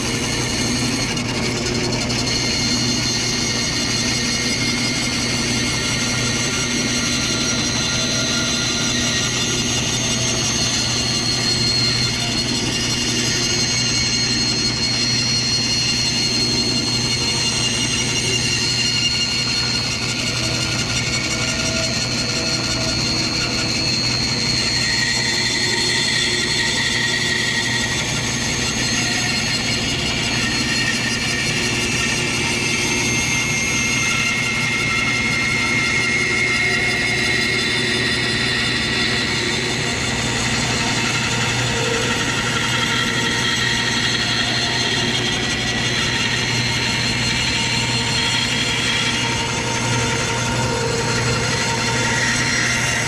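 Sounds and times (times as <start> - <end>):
bandsaw blade whining through wood: 0.0 - 53.0
bandsaw motor hum: 0.0 - 53.0.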